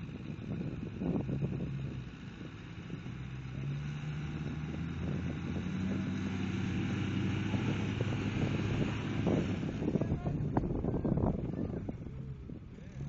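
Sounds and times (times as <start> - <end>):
engines running under load: 0.0 - 13.0.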